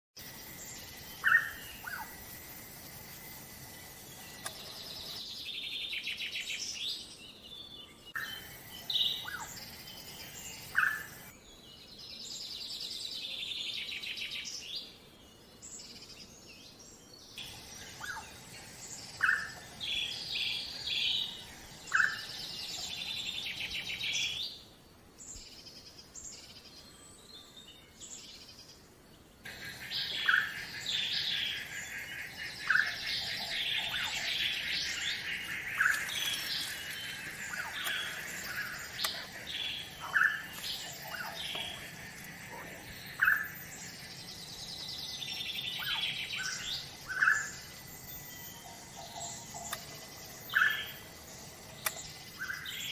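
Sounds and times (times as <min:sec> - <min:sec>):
birds chirping and trilling: 0:00.2 - 0:52.9.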